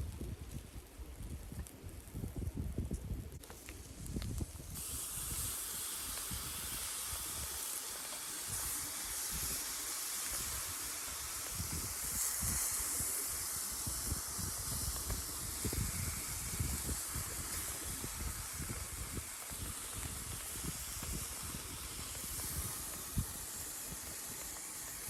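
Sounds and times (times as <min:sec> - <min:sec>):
skewers sizzling over charcoal: 0:00.0 - 0:25.0.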